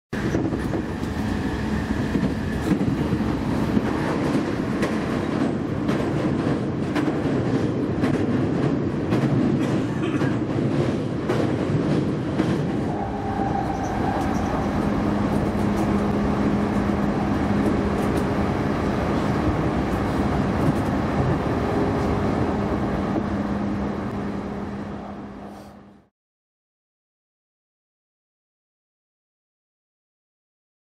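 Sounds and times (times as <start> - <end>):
train wheels rumbling on rails: 0.2 - 25.9.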